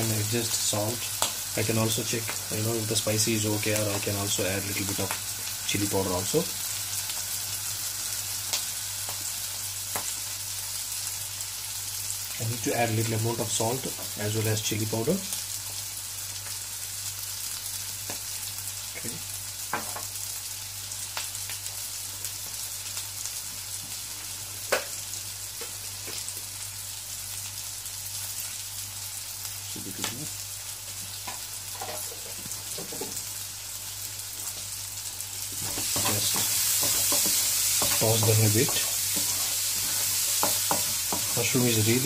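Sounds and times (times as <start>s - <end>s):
food sizzling in oil: 0.0s - 42.0s.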